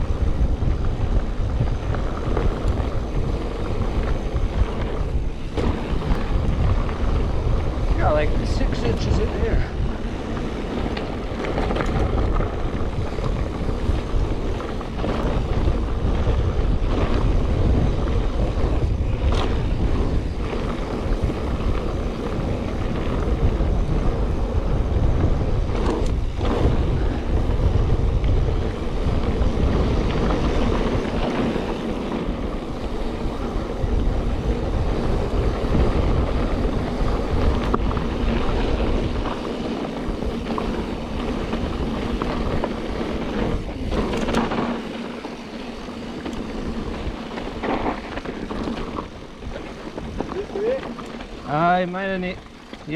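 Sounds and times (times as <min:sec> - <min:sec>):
bike knocks and rattles: 0:00.0 - 0:52.9
bike tyres rolling on dirt: 0:00.0 - 0:52.9
wind buffeting microphone: 0:00.0 - 0:52.9.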